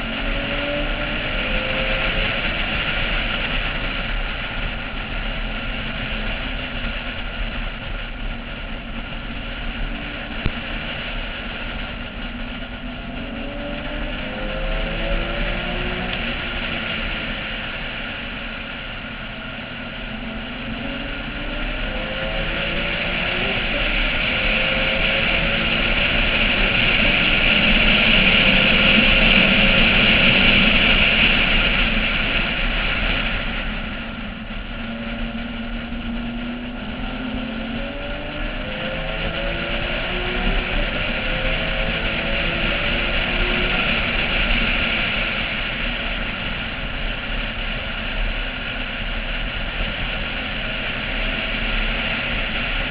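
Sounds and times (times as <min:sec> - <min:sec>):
car engine running: 0:00.0 - 0:52.9
wind rushing over camera: 0:00.0 - 0:52.9.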